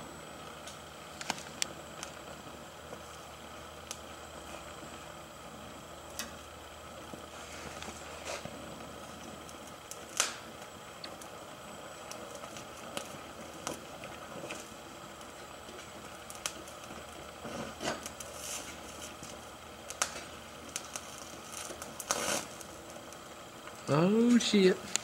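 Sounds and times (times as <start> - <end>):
flux crackling and popping: 0.0 - 25.0
gas torch flame hissing: 0.0 - 25.0.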